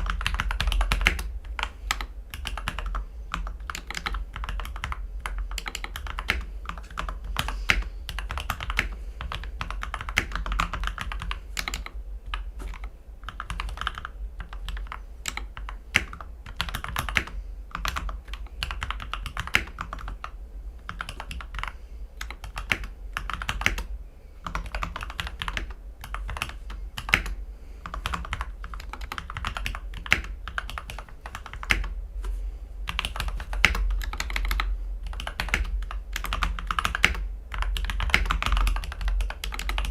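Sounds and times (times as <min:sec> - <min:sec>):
mechanical keyboard typing: 0:00.0 - 0:31.9, 0:32.9 - 0:39.9.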